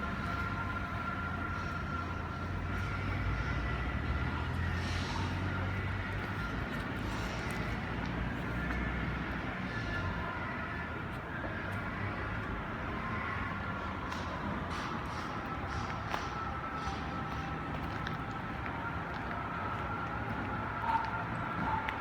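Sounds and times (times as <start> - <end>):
city street ambience: 0.0 - 22.0.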